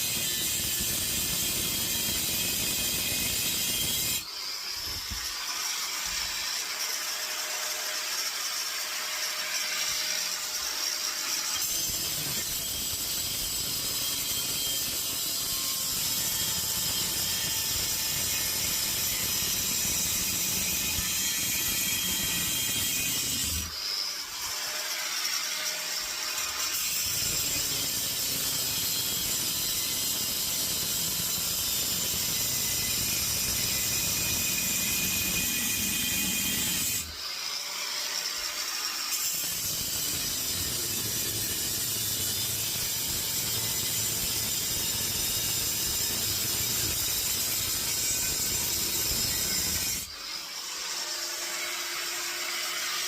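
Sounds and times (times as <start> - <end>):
power tool cutting steel: 0.0 - 53.0.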